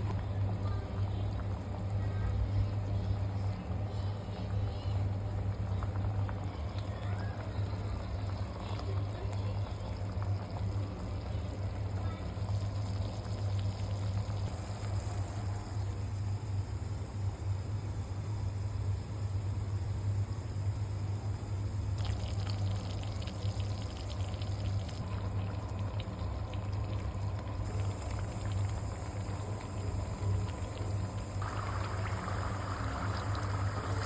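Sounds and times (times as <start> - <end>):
constant low hum: 0.0 - 34.0.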